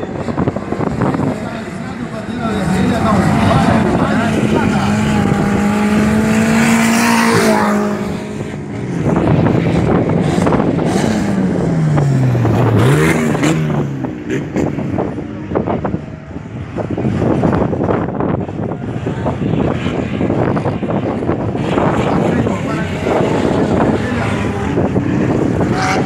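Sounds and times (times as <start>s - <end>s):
car accelerating: 0.0s - 26.0s
race car engine at high revs: 0.0s - 26.0s.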